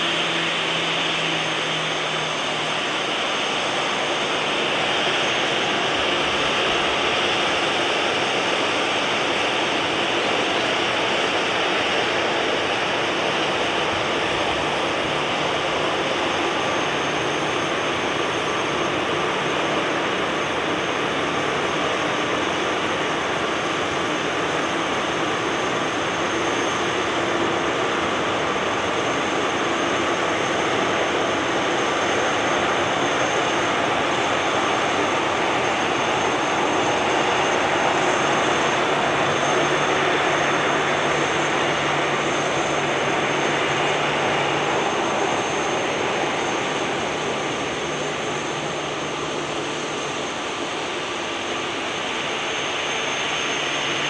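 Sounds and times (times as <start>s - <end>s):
jet engines at taxi thrust: 0.0s - 54.0s.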